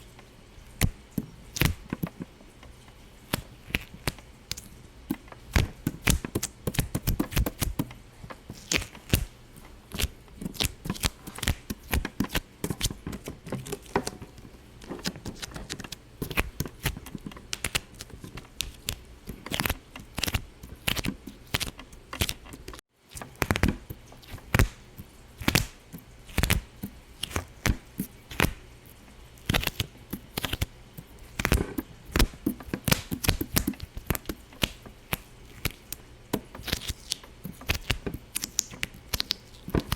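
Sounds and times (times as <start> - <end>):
rapid popping and clicking: 0.8 - 28.7, 29.4 - 39.9.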